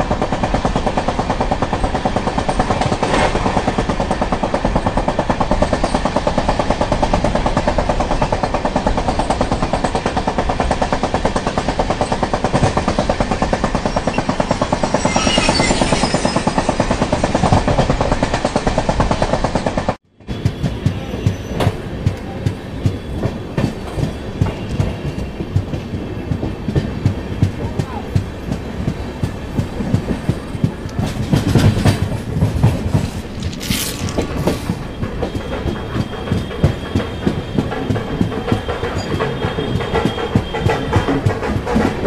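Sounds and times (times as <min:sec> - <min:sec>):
train rumbling: 0:00.0 - 0:42.0
wheels and carriage rattling: 0:00.6 - 0:42.0.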